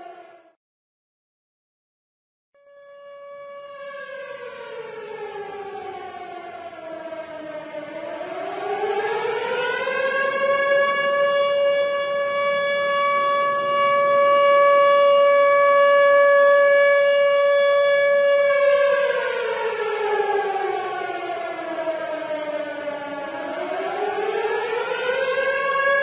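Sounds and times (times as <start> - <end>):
tornado siren wailing: 0.0 - 0.6, 2.6 - 26.0.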